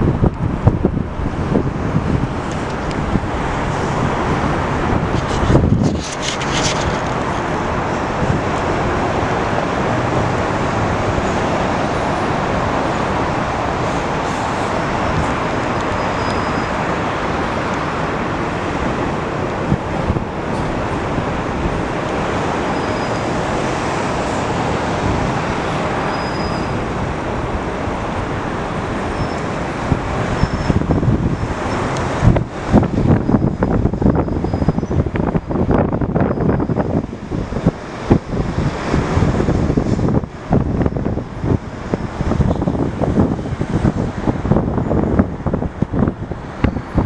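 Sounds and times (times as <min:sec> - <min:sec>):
jet engines roaring: 0:00.0 - 0:47.0
wind buffeting microphone: 0:00.0 - 0:47.0.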